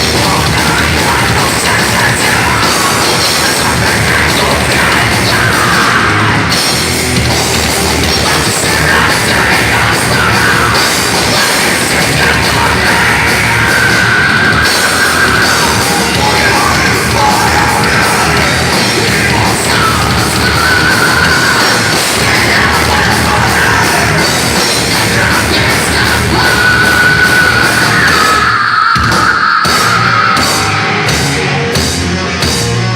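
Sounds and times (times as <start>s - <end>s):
thrash metal band playing: 0.0s - 32.9s.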